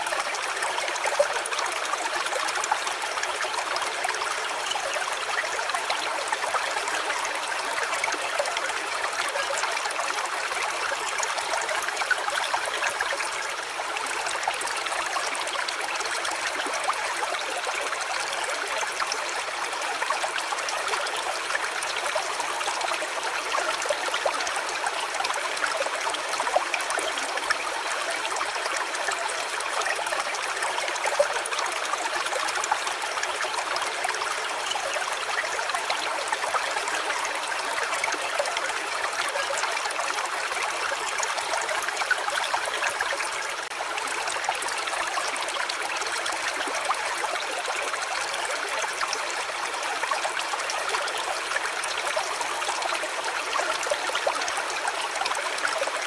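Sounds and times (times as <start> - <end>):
stream trickling and babbling: 0.0 - 56.0.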